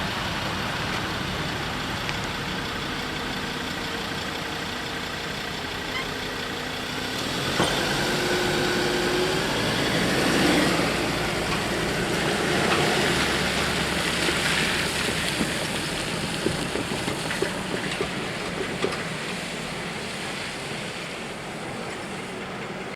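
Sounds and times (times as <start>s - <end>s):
freight train rolling past: 0.0s - 22.9s.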